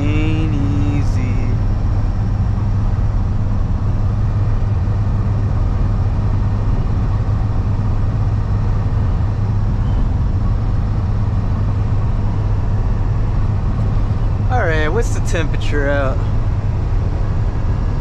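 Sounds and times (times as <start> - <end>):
road and engine noise in truck cab: 0.0 - 18.0.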